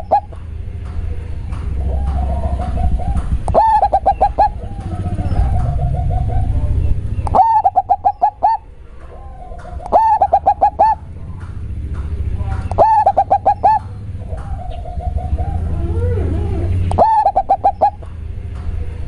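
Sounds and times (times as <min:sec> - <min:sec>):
dove cooing: 0:00.0 - 0:00.4, 0:01.0 - 0:11.5, 0:12.5 - 0:18.2.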